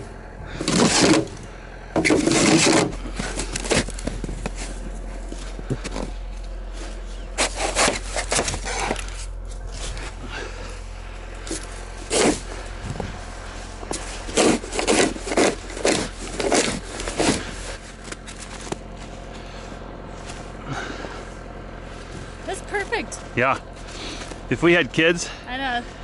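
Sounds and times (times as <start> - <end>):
steady low hum: 0.0 - 26.0
snow shovel scraping snow: 0.5 - 1.4, 2.0 - 6.1, 6.7 - 10.8, 11.4 - 24.5.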